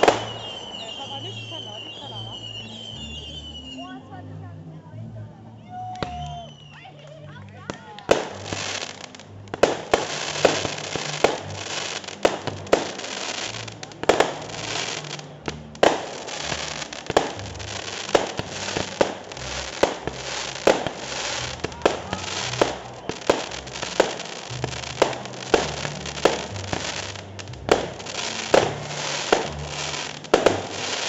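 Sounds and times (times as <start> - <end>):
fireworks bangs: 0.0 - 3.6, 7.6 - 31.0
fireworks crackling: 0.0 - 4.0, 6.0 - 31.0.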